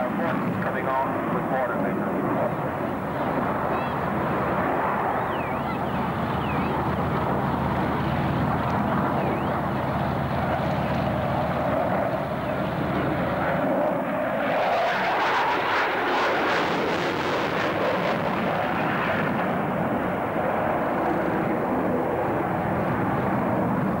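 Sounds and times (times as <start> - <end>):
jet engine roar during flypast: 0.0 - 24.0.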